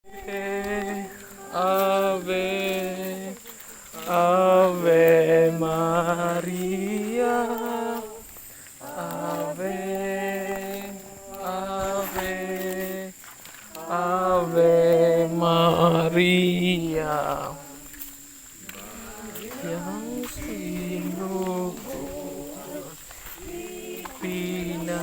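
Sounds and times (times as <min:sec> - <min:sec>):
person singing a slow hymn: 0:00.0 - 0:25.0.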